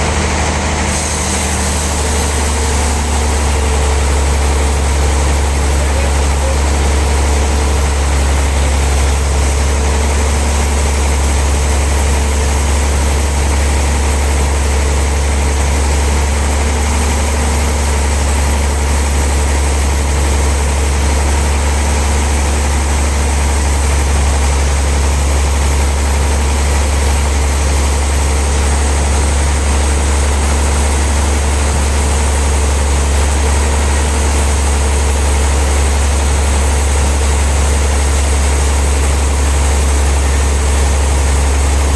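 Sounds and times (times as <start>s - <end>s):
sawmill engine hum: 0.0s - 41.9s.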